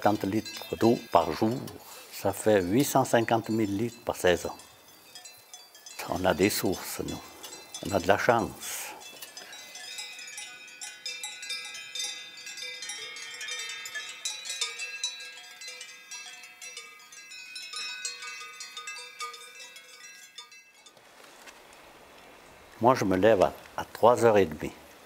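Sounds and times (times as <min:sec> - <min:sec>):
cowbells ringing: 0:00.0 - 0:21.0.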